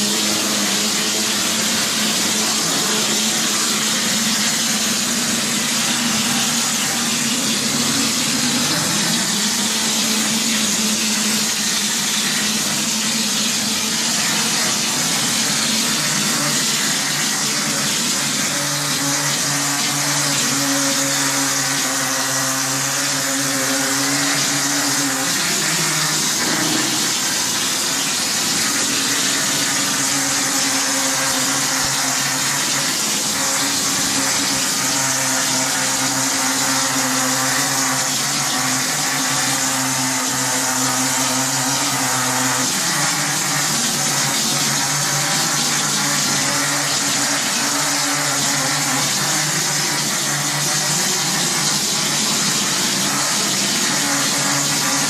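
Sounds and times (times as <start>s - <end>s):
plastering machine motor hum: 0.0s - 55.0s.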